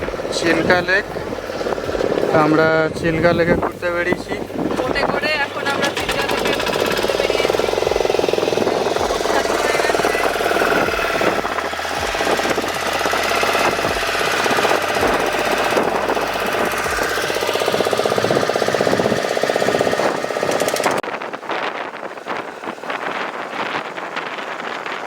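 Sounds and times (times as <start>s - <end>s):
motorboat engine clattering: 0.0s - 25.0s
wind on microphone: 0.0s - 25.0s.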